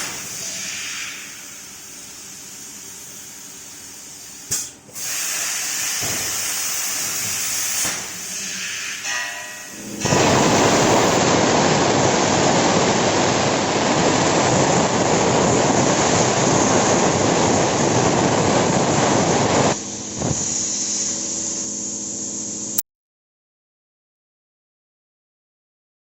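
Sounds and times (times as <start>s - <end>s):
plasma cutter arc hissing: 0.0s - 22.8s.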